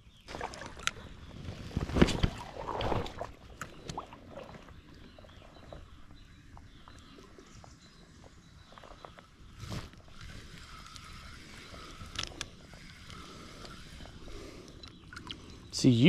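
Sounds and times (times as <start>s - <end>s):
water splashing and sloshing: 0.0s - 15.4s.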